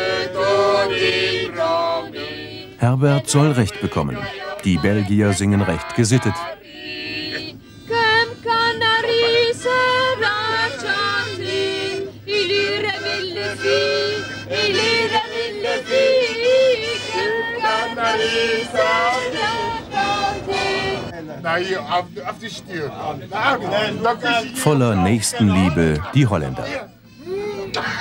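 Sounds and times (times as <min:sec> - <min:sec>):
group singing: 0:00.0 - 0:22.0, 0:23.6 - 0:26.9.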